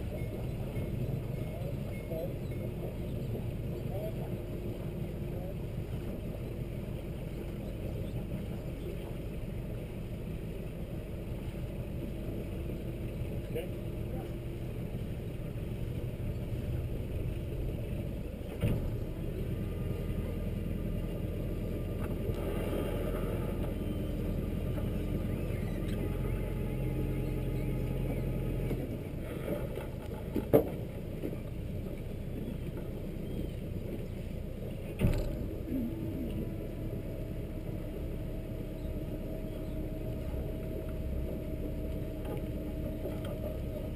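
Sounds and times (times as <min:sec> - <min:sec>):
boat engine humming at low revs: 0:00.0 - 0:43.9.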